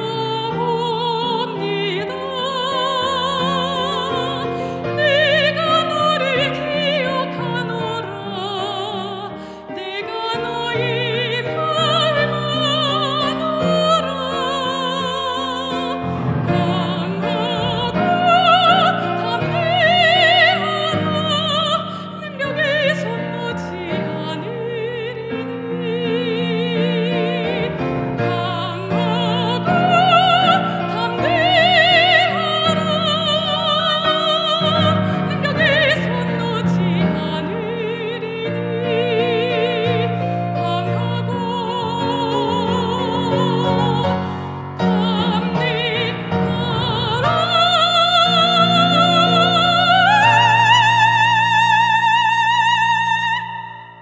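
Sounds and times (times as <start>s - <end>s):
operatic singing: 0.0s - 54.0s
instrumental accompaniment: 0.5s - 54.0s.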